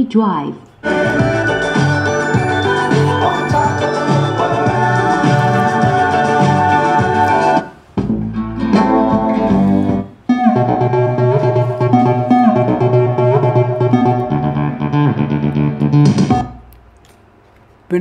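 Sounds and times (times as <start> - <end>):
music through amplifier: 0.8 - 16.7.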